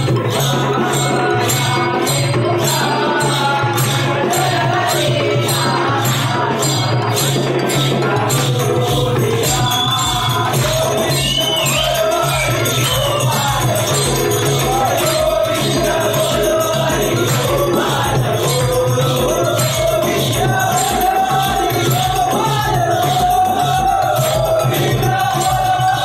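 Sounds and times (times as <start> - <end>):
jingling bells: 0.0 - 26.0
lead voice with chorus singing: 0.0 - 26.0
steady drum beat: 0.0 - 26.0.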